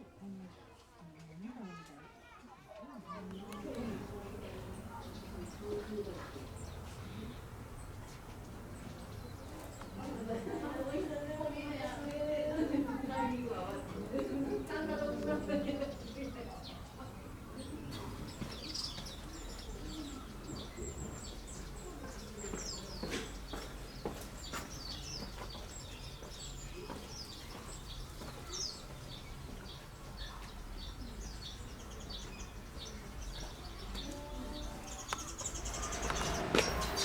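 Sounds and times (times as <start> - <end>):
small birds chirping: 3.0 - 37.0.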